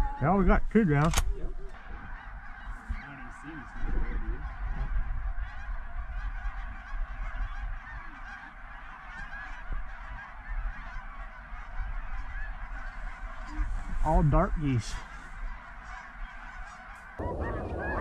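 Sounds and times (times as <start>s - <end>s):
flock of geese honking: 0.0s - 18.0s.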